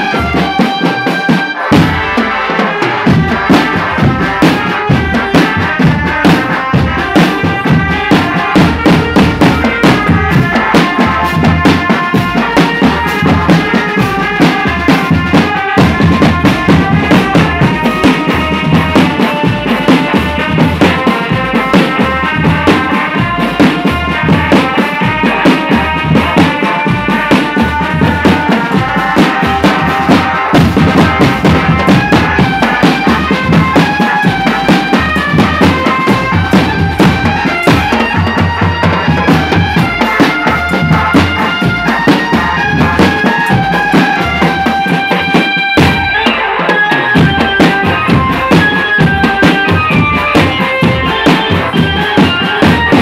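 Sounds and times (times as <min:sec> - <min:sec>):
marching drum band playing: 0:00.0 - 0:53.0
snare and bass drum strokes: 0:00.0 - 0:53.0
sustained melody line: 0:00.0 - 0:53.0.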